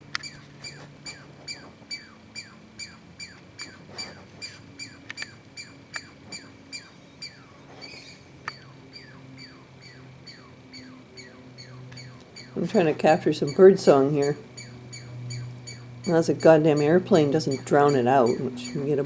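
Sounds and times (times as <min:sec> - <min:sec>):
bird calling loudly: 0:00.0 - 0:19.0.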